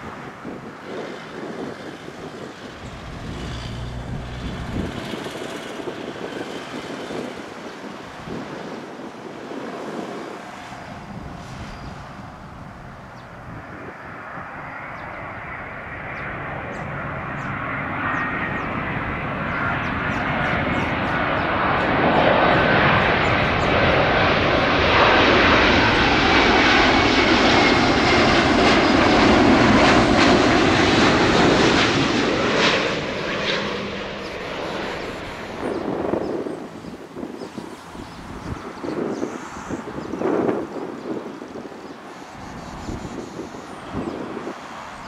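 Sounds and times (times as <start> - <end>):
airliner jet engines passing: 0.0 - 45.0.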